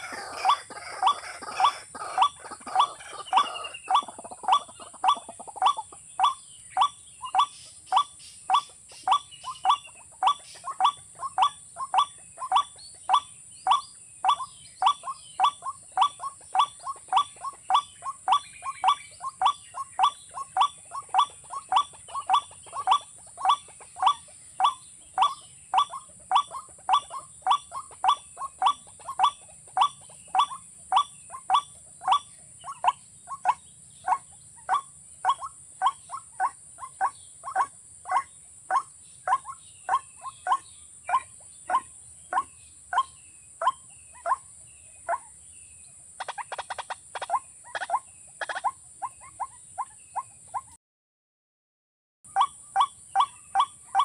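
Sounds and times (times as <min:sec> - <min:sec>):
rail bird calling: 0:00.0 - 0:45.3, 0:46.2 - 0:50.8, 0:52.3 - 0:54.0.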